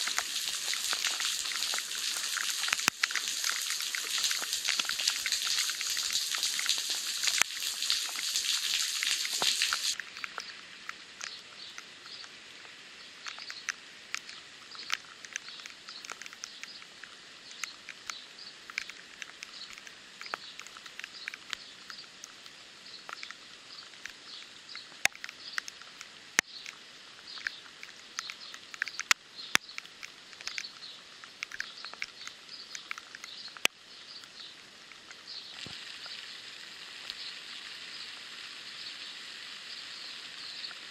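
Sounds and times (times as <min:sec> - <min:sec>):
raindrops ticking: 0:00.0 - 0:38.6
rain hissing on a puddle: 0:00.0 - 0:40.9.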